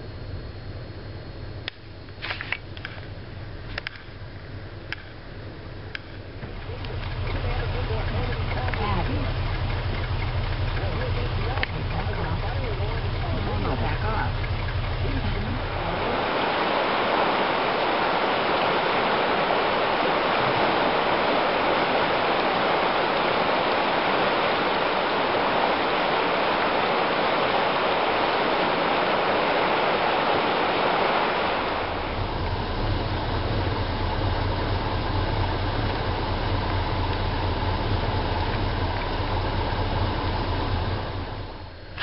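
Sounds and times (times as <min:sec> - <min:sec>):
steady low rumble: 0:00.0 - 0:42.0
river rushing over rapids: 0:04.9 - 0:42.0.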